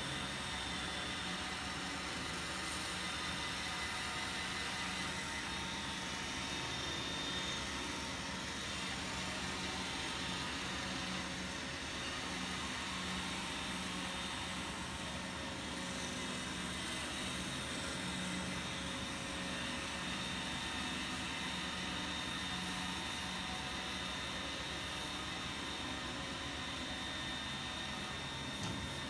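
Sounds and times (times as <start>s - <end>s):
robot vacuum motors: 0.0s - 29.0s.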